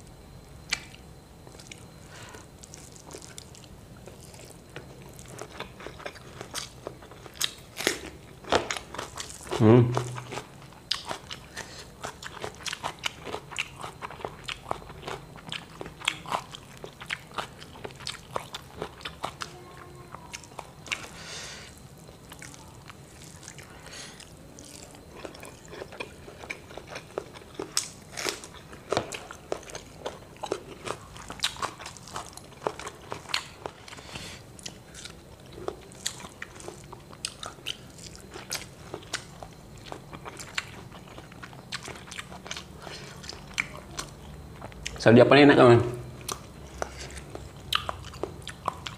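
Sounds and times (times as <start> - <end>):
crunching food: 0.1 - 45.1, 46.0 - 48.9
person chewing and smacking: 0.6 - 21.2, 22.0 - 45.0, 46.2 - 48.9.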